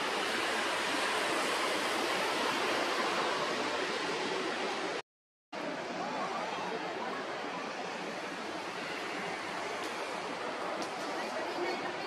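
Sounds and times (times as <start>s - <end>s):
rushing outdoor background noise: 0.0s - 5.0s, 5.6s - 12.0s.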